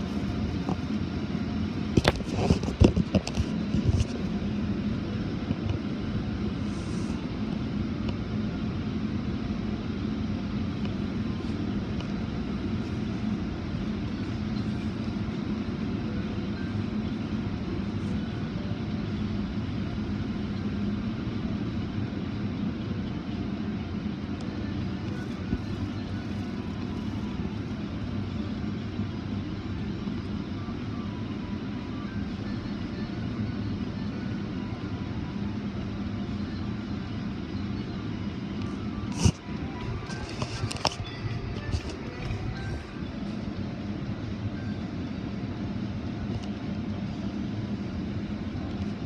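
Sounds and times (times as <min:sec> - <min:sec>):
car wash machinery drone: 0:00.0 - 0:49.0.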